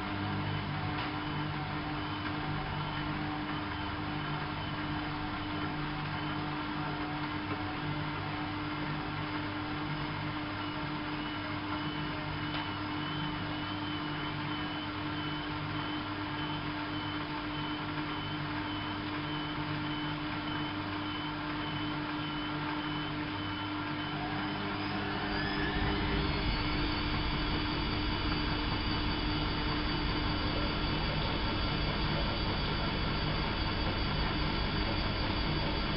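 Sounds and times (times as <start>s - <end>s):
washing machine running: 0.0s - 35.9s.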